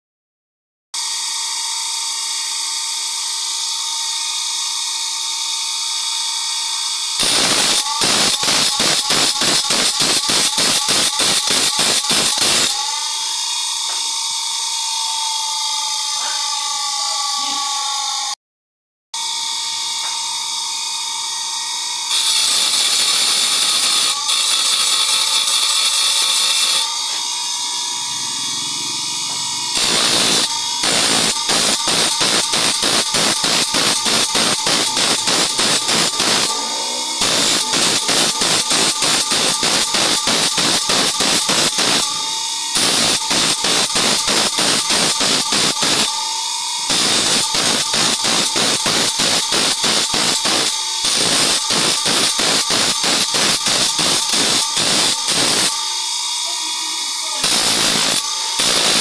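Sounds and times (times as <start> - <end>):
grinding wheel whining: 1.0 - 18.4, 19.2 - 59.0
saw blade grinding on wheel: 2.6 - 15.2, 15.8 - 18.2, 19.2 - 59.0.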